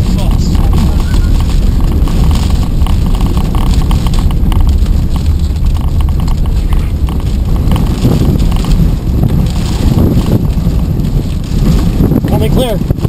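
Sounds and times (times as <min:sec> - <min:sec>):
rain spattering on windshield: 0:00.0 - 0:13.0
vehicle low rumble: 0:00.0 - 0:13.0
wind: 0:00.0 - 0:13.0.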